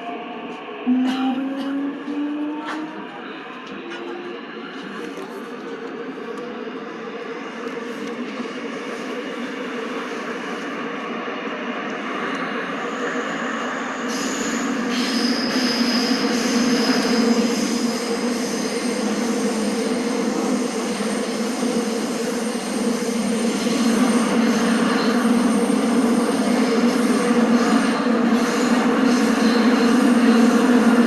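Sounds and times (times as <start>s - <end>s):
subway train rumbling: 0.0s - 31.0s.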